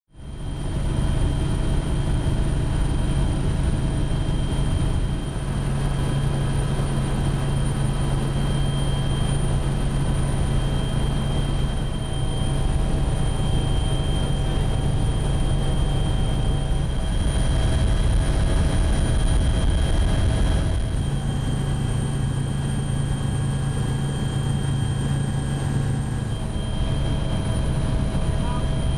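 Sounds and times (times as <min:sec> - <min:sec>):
aircraft cabin drone: 0:00.2 - 0:28.9
faint high whine: 0:00.2 - 0:28.9.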